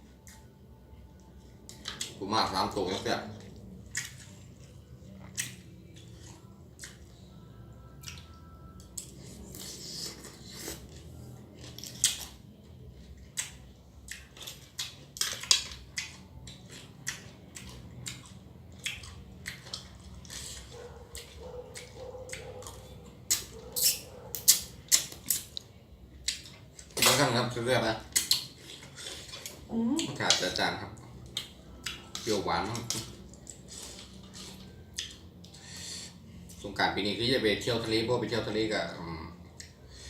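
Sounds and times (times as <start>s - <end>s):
chewing and crunching: 1.1s - 36.8s.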